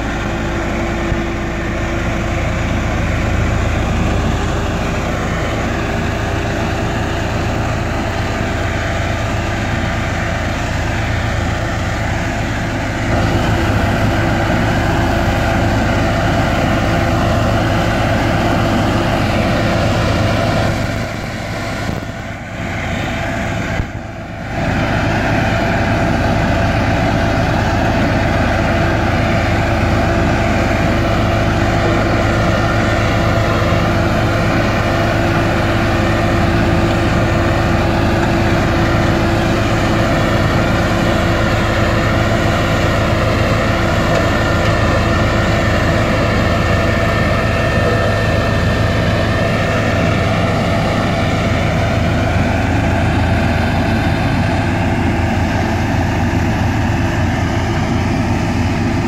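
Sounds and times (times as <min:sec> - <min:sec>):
road roller diesel engine running: 0:00.0 - 0:59.0.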